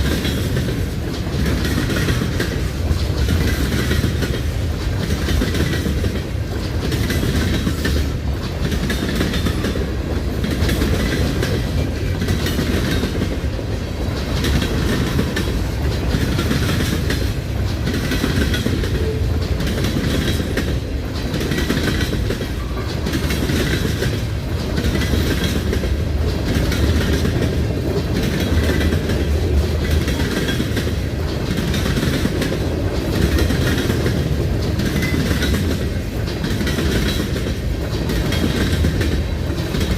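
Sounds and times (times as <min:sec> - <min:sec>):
freight cars rumbling: 0:00.0 - 0:39.9
wheels clacking over rail joints: 0:00.0 - 0:39.9.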